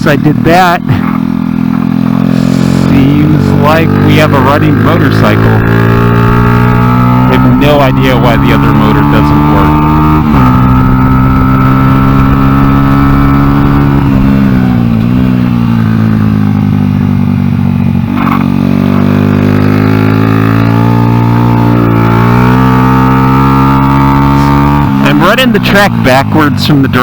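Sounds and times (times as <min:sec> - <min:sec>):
motorbike engine at high revs: 0:00.0 - 0:27.0.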